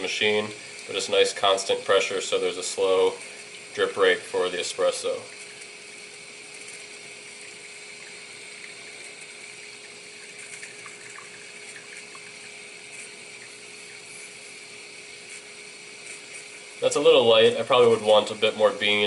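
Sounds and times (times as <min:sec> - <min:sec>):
espresso trickling hiss: 0:00.0 - 0:19.0
low machine hum: 0:00.0 - 0:19.0.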